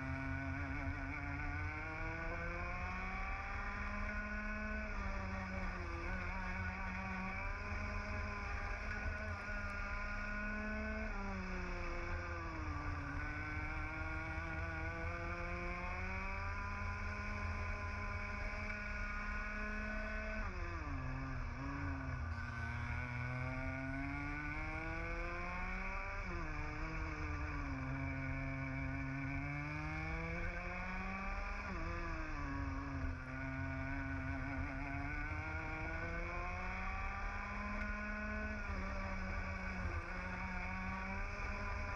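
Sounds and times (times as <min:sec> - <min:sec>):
kart engine revving: 0:00.0 - 0:41.9.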